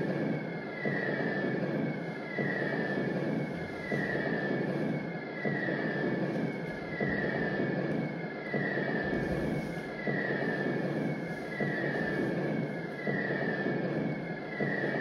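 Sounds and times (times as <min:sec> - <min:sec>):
droning electronic rumble: 0:00.0 - 0:15.0.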